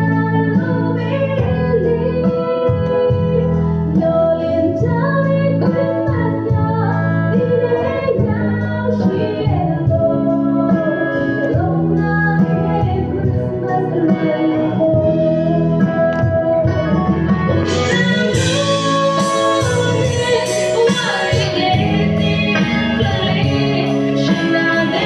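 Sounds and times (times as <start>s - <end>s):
guitar accompaniment: 0.0s - 25.0s
woman singing: 0.0s - 25.0s.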